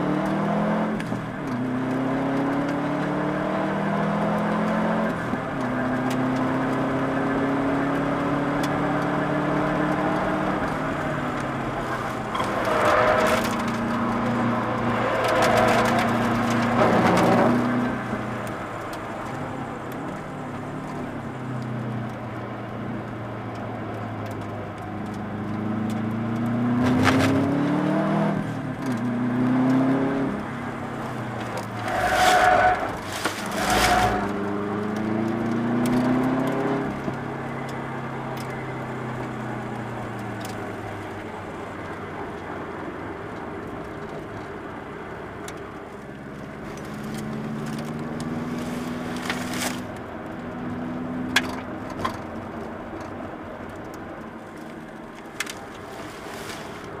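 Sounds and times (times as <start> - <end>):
car engine revving: 0.0 - 22.1, 24.2 - 41.7, 46.3 - 52.7.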